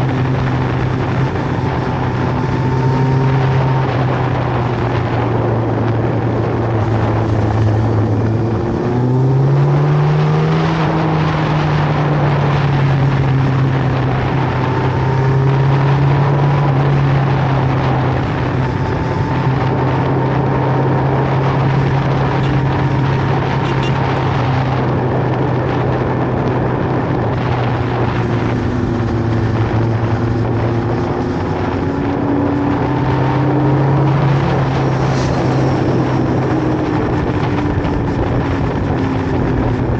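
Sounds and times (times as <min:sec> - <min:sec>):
motorcycle engine running: 0:00.0 - 0:39.9
steady rush of noise: 0:00.0 - 0:39.9.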